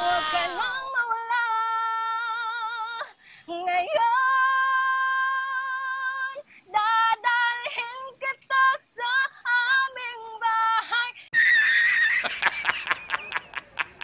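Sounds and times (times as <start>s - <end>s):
woman singing unaccompanied: 0.0s - 11.3s.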